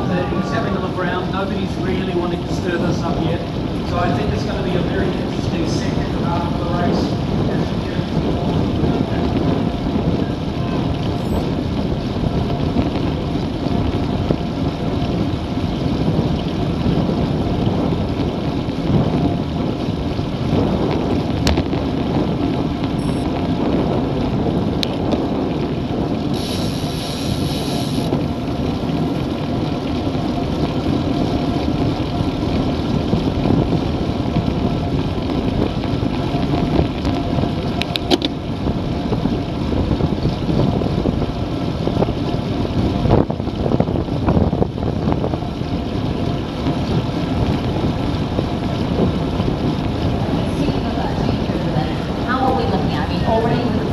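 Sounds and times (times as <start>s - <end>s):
road and tyre noise: 0.0s - 53.9s
wind rushing over camera: 0.0s - 53.9s.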